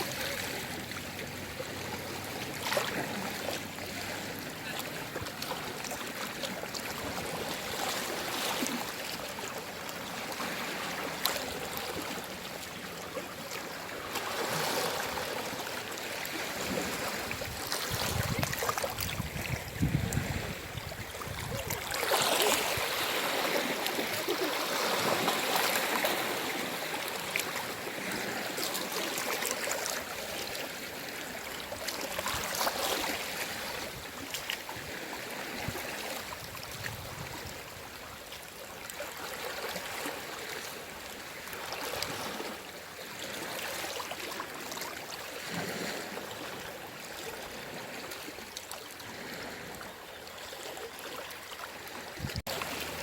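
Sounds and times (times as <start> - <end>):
sea waves washing onto shore: 0.0 - 53.0.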